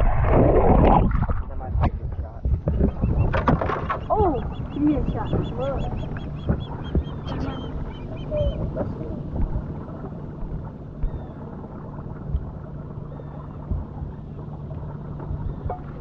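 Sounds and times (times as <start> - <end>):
small boat motor humming: 2.4 - 16.0.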